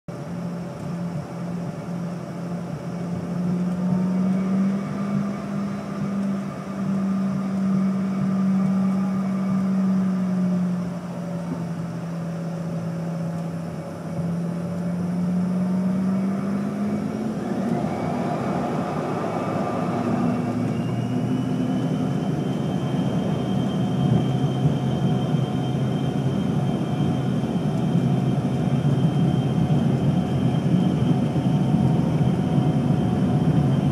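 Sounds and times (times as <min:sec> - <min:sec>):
airliner engines humming: 0:00.1 - 0:33.9
high engine whine: 0:00.1 - 0:33.9.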